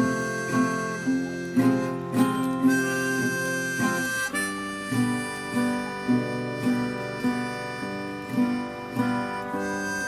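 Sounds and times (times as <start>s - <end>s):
acoustic guitar picking: 0.0s - 10.0s
harmonica playing chords: 0.0s - 10.0s.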